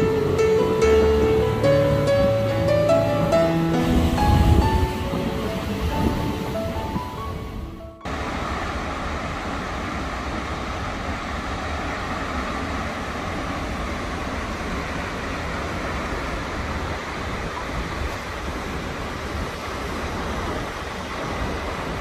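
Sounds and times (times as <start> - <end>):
waterfall rushing with deep rumble: 0.0 - 22.0.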